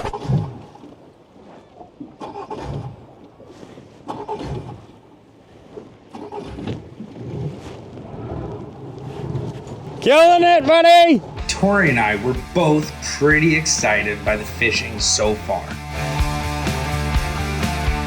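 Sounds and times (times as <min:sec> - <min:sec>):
water splashes: 0:00.0 - 0:15.7.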